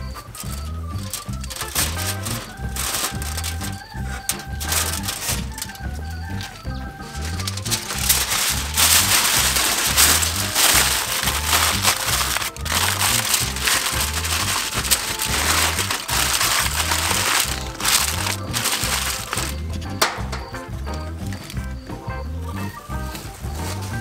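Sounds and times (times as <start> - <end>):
aluminium foil crinkling: 0.0 - 20.5
background music with bass beat: 0.0 - 24.0.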